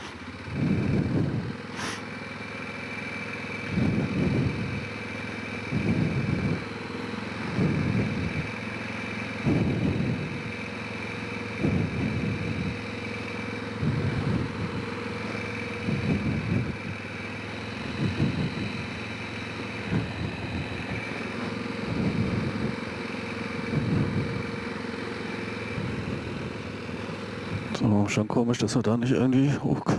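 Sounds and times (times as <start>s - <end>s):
quad engine revving: 0.0s - 29.9s.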